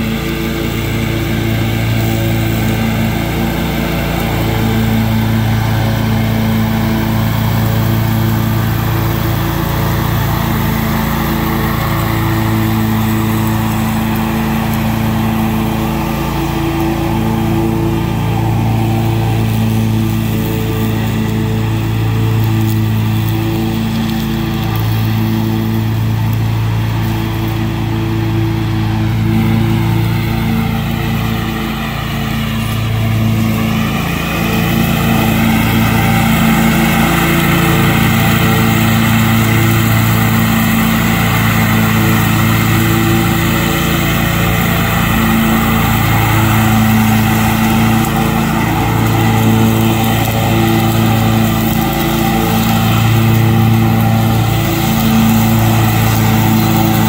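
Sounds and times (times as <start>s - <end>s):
mower engine running: 0.0s - 57.0s.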